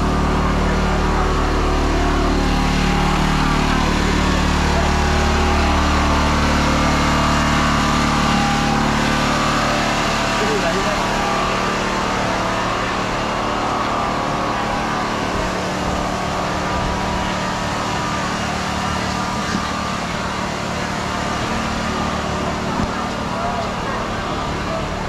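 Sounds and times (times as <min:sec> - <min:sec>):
crowd chatter: 0:00.0 - 0:25.0
mechanical hum with held tones: 0:00.0 - 0:25.0.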